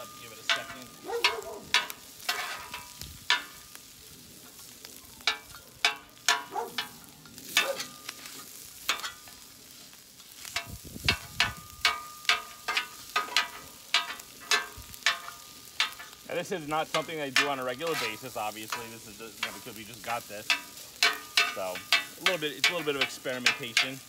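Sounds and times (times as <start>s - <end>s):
metal spatulas clacking on griddle: 0.0s - 3.8s, 4.5s - 9.5s, 10.2s - 16.2s, 16.9s - 24.0s
frying sizzle: 0.0s - 24.0s.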